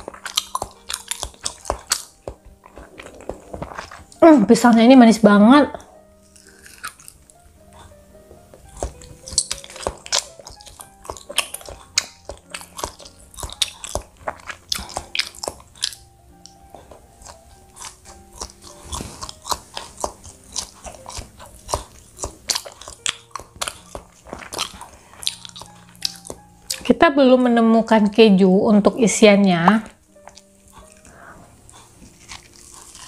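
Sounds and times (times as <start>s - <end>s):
chewing and biting bread: 0.0s - 4.4s, 5.7s - 26.9s, 29.8s - 33.0s
soft background music: 0.0s - 33.0s.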